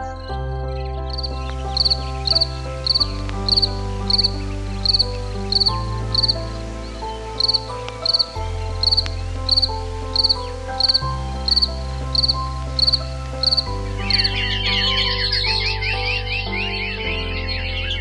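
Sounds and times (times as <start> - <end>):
background music with held chords: 0.0 - 18.0
insect chirping: 0.9 - 18.0
warbling chirps: 1.1 - 18.0.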